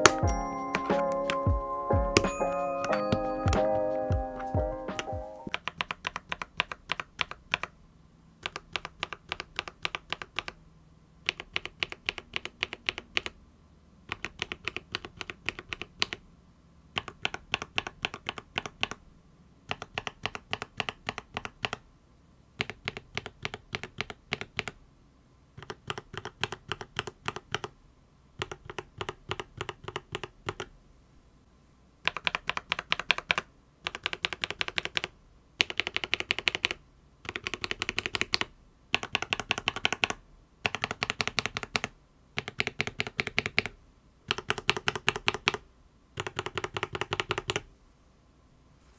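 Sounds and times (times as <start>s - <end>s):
mechanical keyboard typing: 0.0s - 7.8s, 8.4s - 10.6s, 11.2s - 13.4s, 14.0s - 16.2s, 16.9s - 19.0s, 19.7s - 21.8s, 22.6s - 24.8s, 25.6s - 27.8s, 28.4s - 30.7s, 32.0s - 45.6s, 46.2s - 47.7s.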